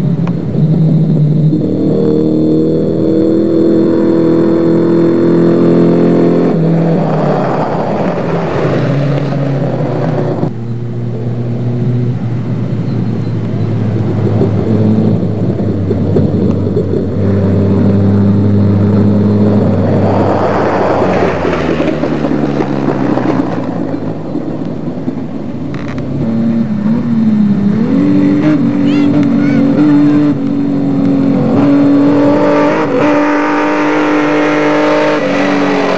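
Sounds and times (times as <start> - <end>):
racing buggy engines: 0.0 - 35.9.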